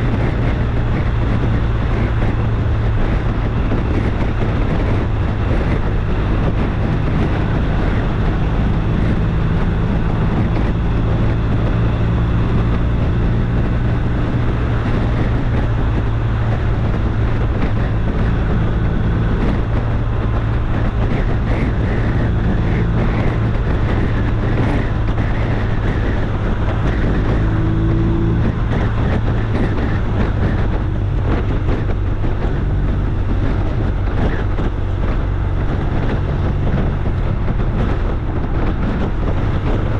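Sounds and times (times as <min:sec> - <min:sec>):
low engine drone: 0:00.0 - 0:39.9
wind noise on microphone: 0:00.0 - 0:39.9.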